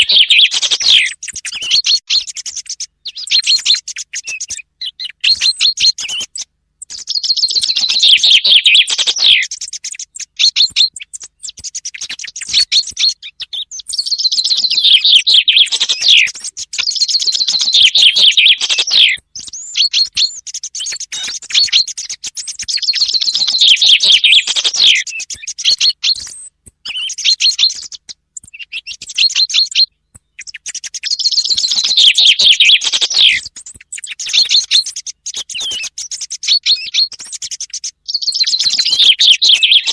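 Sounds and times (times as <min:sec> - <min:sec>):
chaffinch song trills: 0:00.0 - 0:39.9.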